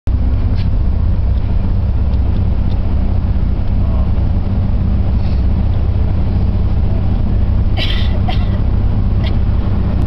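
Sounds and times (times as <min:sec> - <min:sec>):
car road and engine rumble: 0:00.1 - 0:10.0.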